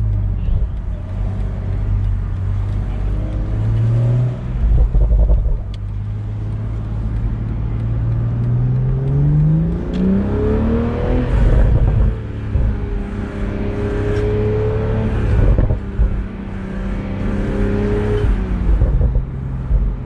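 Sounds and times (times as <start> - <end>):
car engine revving and accelerating: 0.0 - 20.0.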